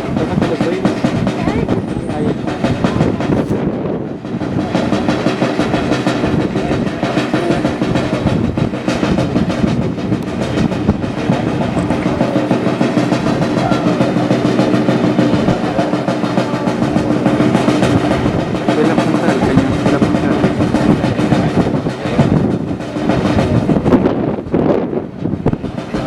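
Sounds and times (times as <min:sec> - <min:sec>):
snare drum roll: 0:00.0 - 0:26.0.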